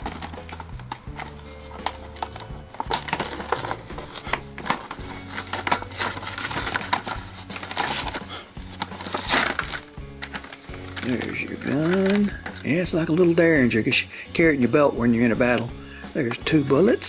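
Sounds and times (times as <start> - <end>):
plastic packaging crackling: 0.0 - 13.8, 15.4 - 17.0.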